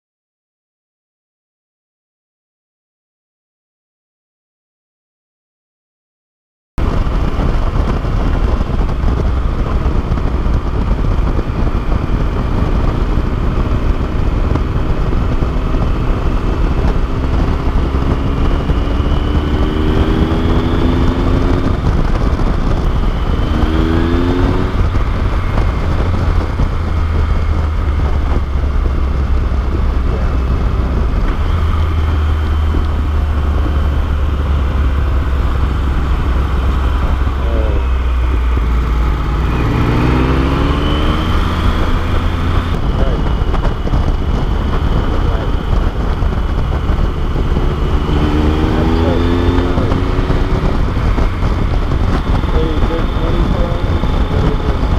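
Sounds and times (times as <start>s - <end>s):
motorcycle engine accelerating: 6.8s - 54.9s
wind noise: 6.8s - 54.9s.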